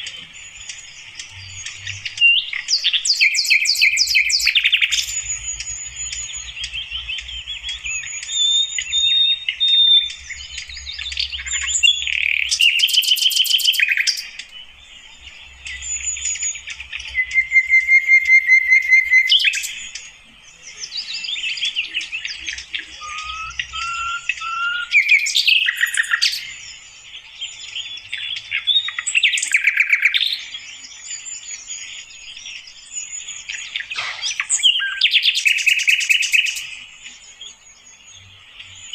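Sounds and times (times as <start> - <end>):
flycatcher singing chirps and trills: 0.0 - 38.9.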